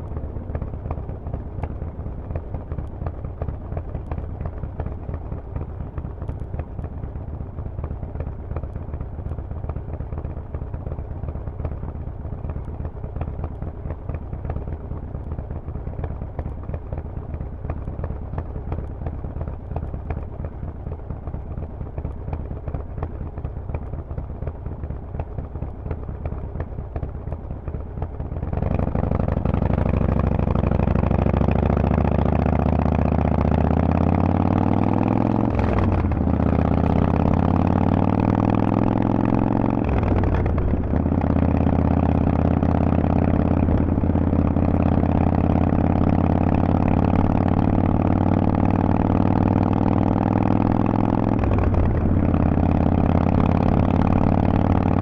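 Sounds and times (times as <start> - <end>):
motorcycle exhaust pulsing: 0.0 - 55.0.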